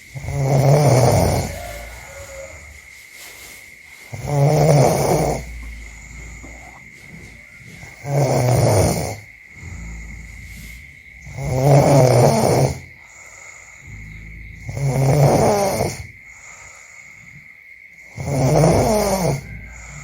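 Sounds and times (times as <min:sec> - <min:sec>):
quiet breathing: 0:00.0 - 0:20.0
person snoring: 0:00.2 - 0:02.8, 0:04.1 - 0:17.5, 0:18.1 - 0:20.0.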